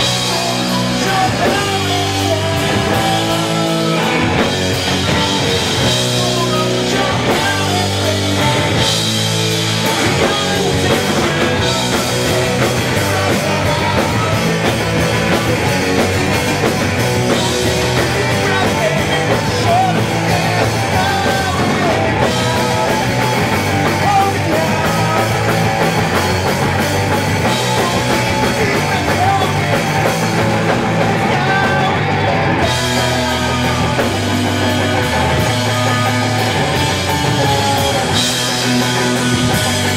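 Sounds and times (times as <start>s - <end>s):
singer shouting lyrics: 0.0s - 16.0s, 17.1s - 39.9s
pounding drum kit: 0.0s - 39.9s
punk rock band playing live: 0.0s - 39.9s.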